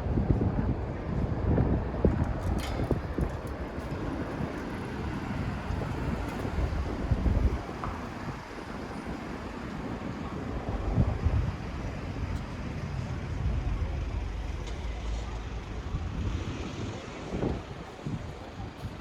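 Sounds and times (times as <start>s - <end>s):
wind buffeting microphone: 0.0s - 19.0s
road traffic rumble: 0.1s - 19.0s.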